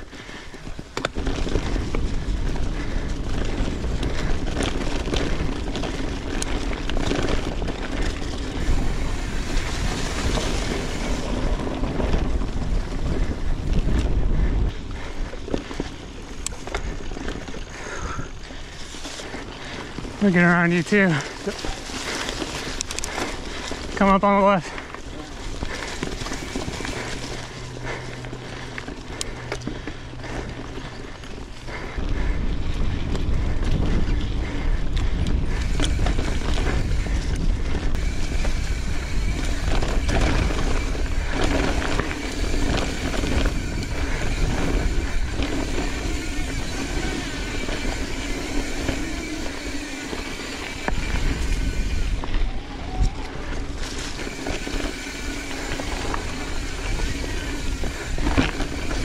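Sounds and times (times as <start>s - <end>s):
wind rumble on microphone: 0.0s - 20.3s, 25.0s - 59.0s
bike rattling over trail: 0.0s - 59.0s
bike tyre noise on dirt: 0.0s - 59.0s.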